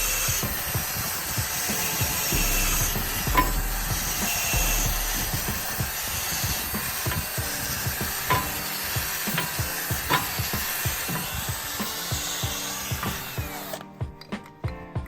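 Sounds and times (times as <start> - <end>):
loud hissing noise: 0.0 - 13.8
music with steady beat: 0.0 - 15.0.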